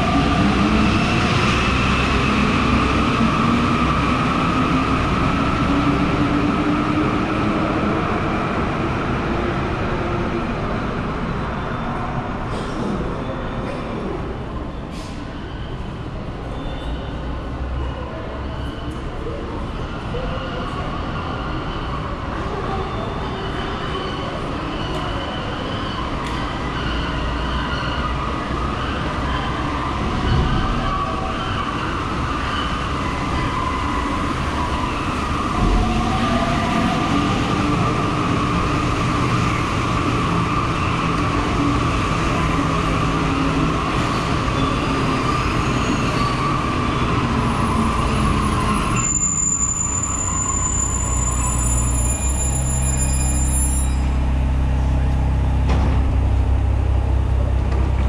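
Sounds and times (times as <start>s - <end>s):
metro train rumble and whine: 0.0s - 58.0s.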